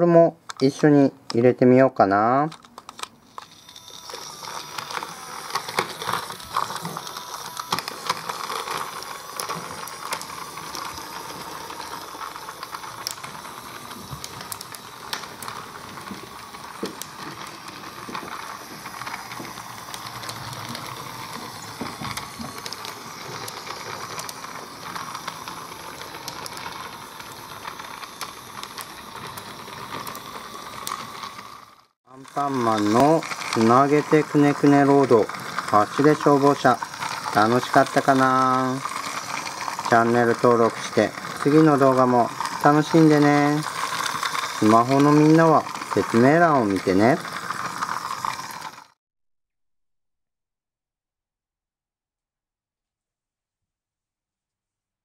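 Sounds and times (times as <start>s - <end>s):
toy motor running: 2.3s - 49.0s
plastic track segments clattering: 2.4s - 49.0s.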